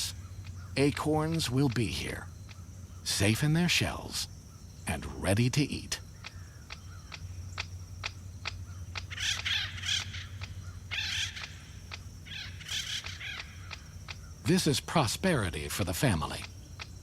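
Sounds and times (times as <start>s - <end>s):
woodpeckers tapping: 0.0s - 3.7s, 5.2s - 14.7s, 15.3s - 17.0s
harsh raspy chattering calls: 0.0s - 17.0s.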